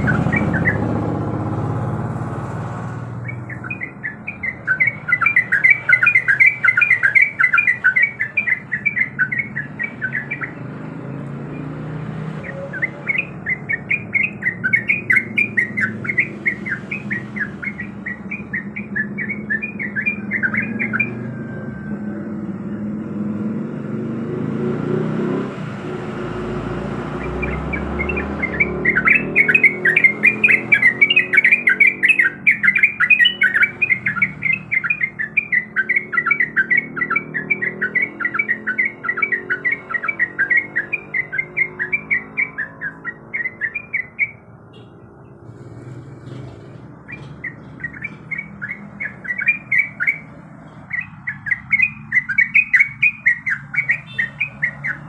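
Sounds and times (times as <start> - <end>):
bird singing rapid chattering phrases: 0.0 - 55.0.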